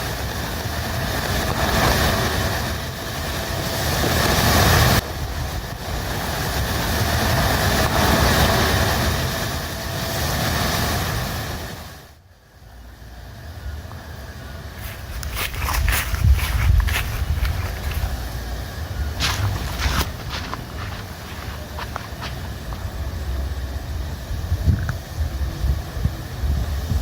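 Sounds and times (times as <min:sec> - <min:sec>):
strong wind buffeting microphone: 0:00.0 - 0:12.1, 0:14.6 - 0:27.0
rain hiss: 0:00.0 - 0:27.0.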